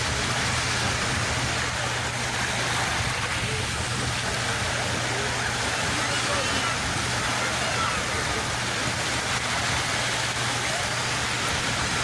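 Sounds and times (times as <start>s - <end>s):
sea water rushing: 0.0s - 12.0s.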